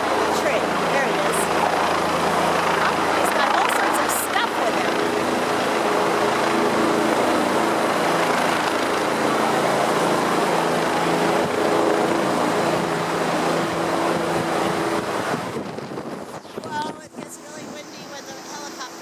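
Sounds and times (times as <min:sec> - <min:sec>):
helicopter rotor and turbine: 0:00.0 - 0:19.0.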